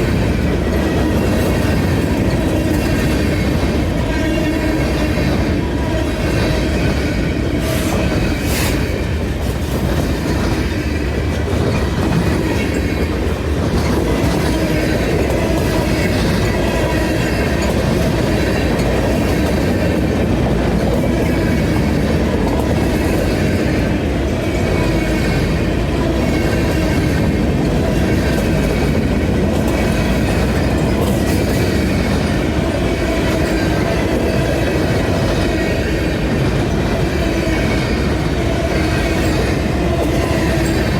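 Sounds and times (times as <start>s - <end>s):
train wheels clacking: 0.0s - 40.9s.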